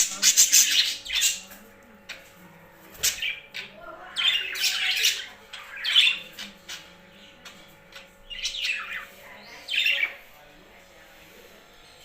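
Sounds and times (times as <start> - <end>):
pet birds squawking: 0.0 - 10.4.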